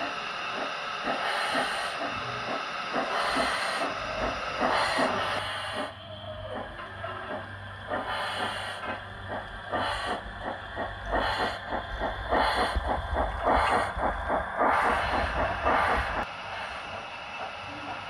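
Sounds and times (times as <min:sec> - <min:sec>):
low hum: 0:00.0 - 0:18.0
model steam locomotive running: 0:00.0 - 0:18.0.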